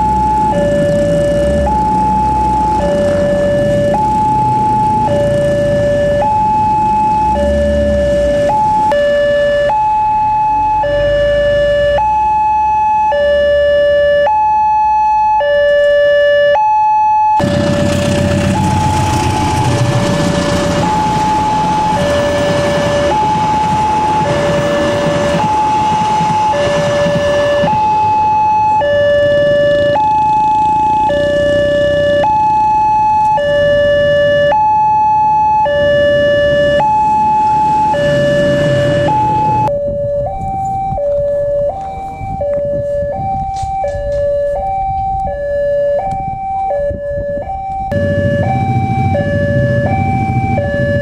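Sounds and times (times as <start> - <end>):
motorcycle engines: 0.0 - 12.3, 17.4 - 51.0
road noise: 0.0 - 16.7, 17.3 - 51.0
two-tone level crossing alarm: 0.0 - 51.0.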